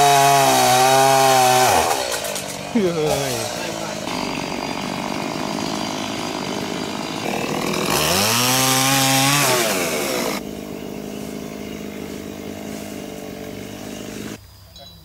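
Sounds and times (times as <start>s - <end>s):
chainsaw idling and revving: 0.0s - 14.4s.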